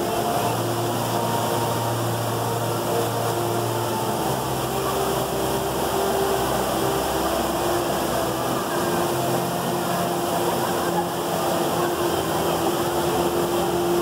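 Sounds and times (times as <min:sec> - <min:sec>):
indoor waterfall roaring: 0:00.0 - 0:14.0.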